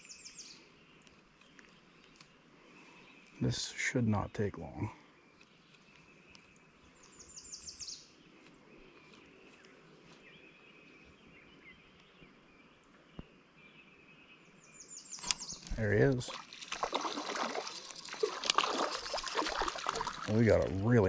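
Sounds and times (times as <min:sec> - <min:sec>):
soft bird calls: 0:00.0 - 0:21.0.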